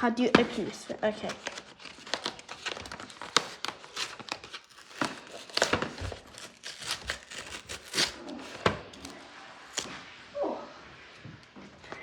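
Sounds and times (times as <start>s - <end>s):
packaging crinkling and tearing: 0.4s - 10.0s.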